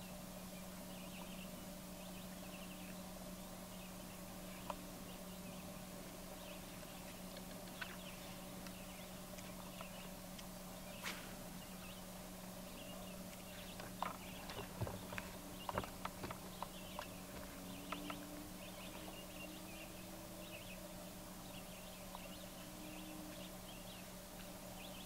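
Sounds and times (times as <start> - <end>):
faint bird chirps: 0.0 - 25.0
steady low hum: 0.0 - 25.0.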